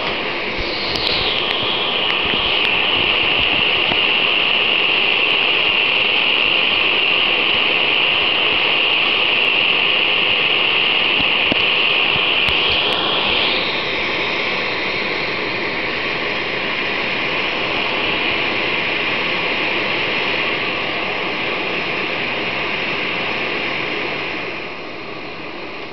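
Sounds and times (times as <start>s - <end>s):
stove burner hissing: 0.0s - 25.9s.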